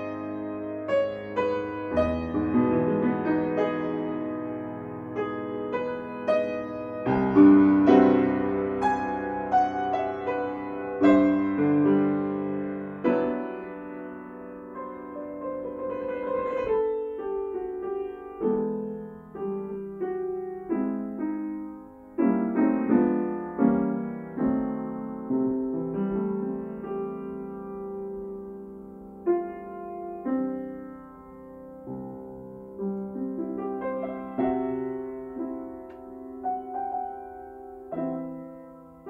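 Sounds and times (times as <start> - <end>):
piano playing slow chords: 0.0 - 39.0.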